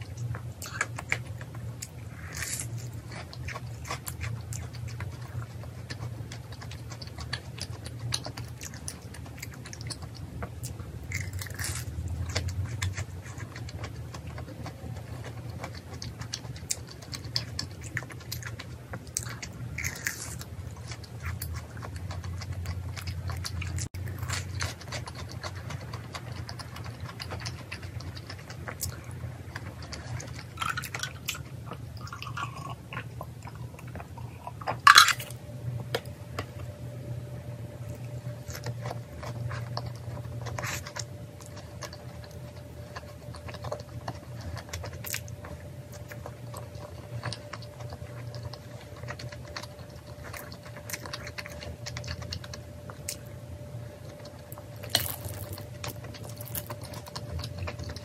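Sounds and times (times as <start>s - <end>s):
person chewing and crunching food: 0.0s - 58.0s
steady low hum: 0.0s - 58.0s.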